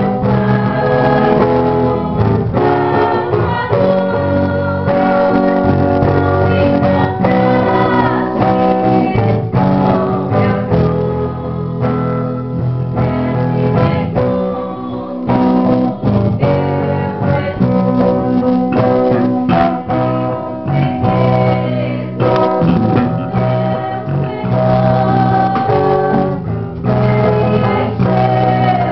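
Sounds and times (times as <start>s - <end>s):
person singing: 0.0s - 28.9s
strummed guitar: 0.0s - 28.9s.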